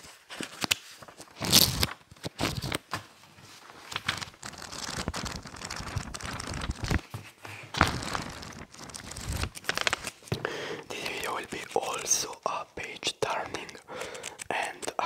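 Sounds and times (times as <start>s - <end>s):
book pages flipping: 0.0s - 15.0s.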